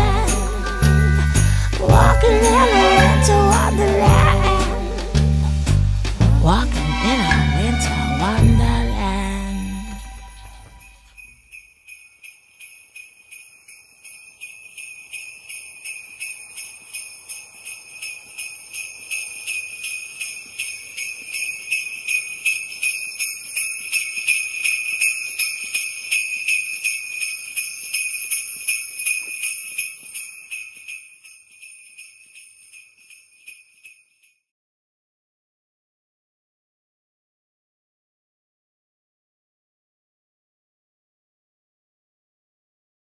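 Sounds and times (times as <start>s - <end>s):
sleigh bells shaken: 0.0s - 34.5s.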